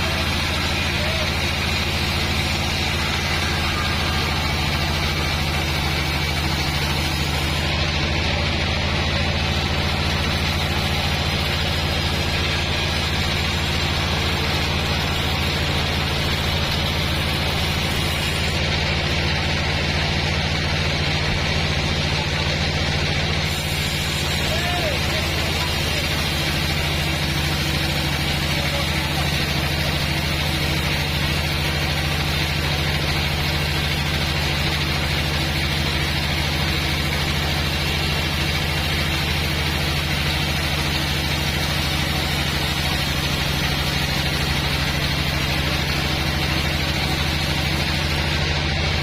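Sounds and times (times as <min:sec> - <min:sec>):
bandsaw machine running: 0:00.0 - 0:49.0.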